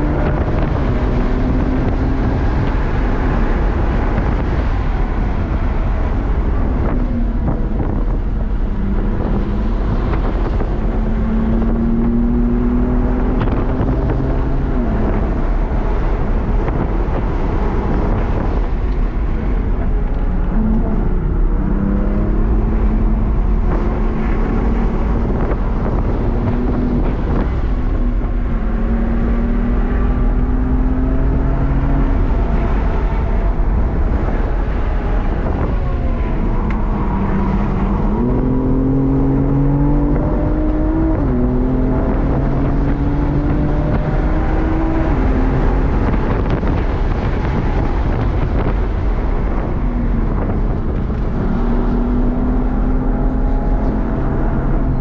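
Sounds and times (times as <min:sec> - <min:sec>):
car engine revving hard: 0:00.0 - 0:55.0
wind and tyre noise: 0:00.0 - 0:55.0.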